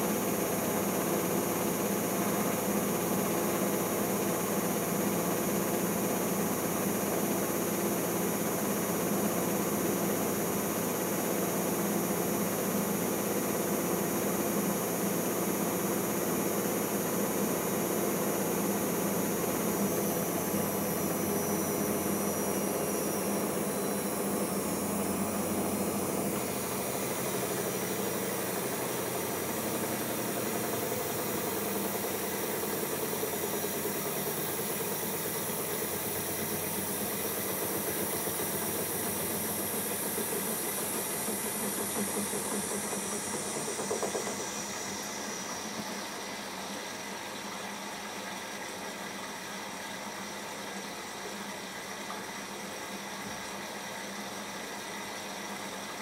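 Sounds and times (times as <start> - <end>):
washing machine hiss: 0.0 - 56.0
washing machine motor hum: 0.0 - 56.0.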